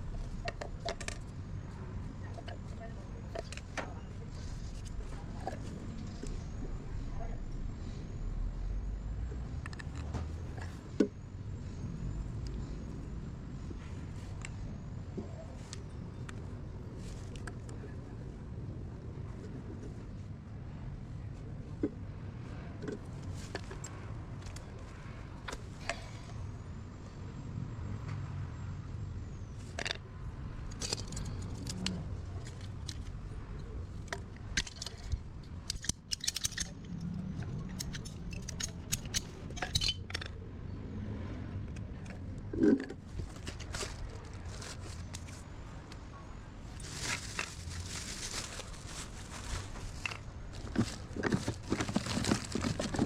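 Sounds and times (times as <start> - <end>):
steady low rumble: 0.0 - 53.0.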